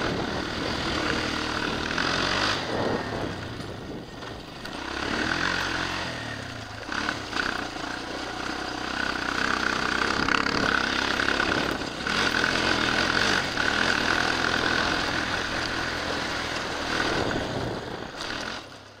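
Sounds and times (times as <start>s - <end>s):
quad engine running under throttle: 0.0s - 19.0s.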